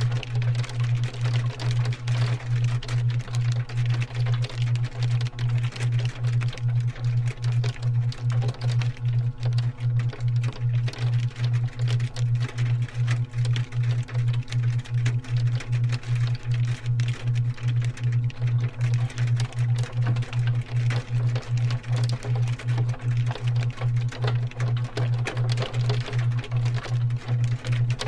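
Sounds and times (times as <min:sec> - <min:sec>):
loud pulsing low hum: 0:00.0 - 0:28.0.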